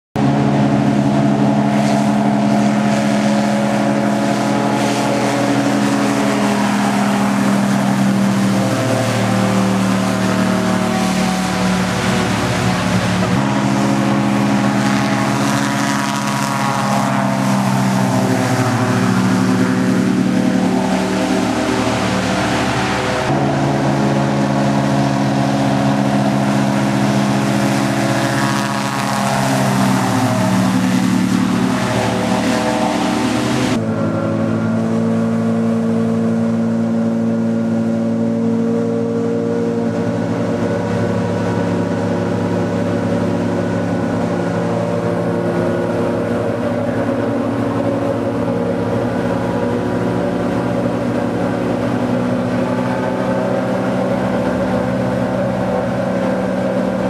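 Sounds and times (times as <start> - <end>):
airboat engine and propeller: 0.2 - 57.0.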